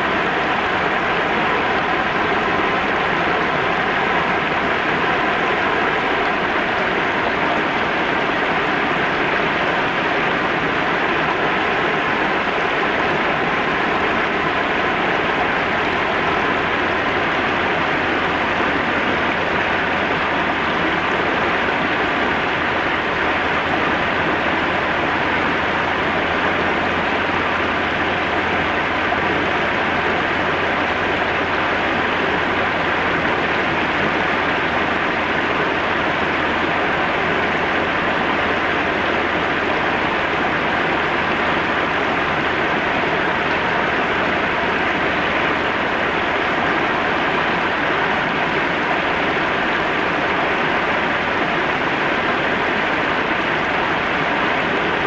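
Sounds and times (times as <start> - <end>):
river water rushing over weir: 0.0 - 55.0.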